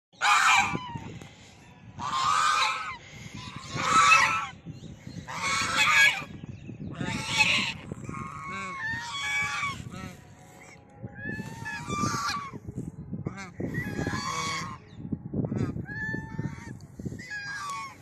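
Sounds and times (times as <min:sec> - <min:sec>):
geese honking: 0:00.2 - 0:01.1, 0:01.9 - 0:04.6, 0:05.2 - 0:12.6, 0:13.2 - 0:18.0.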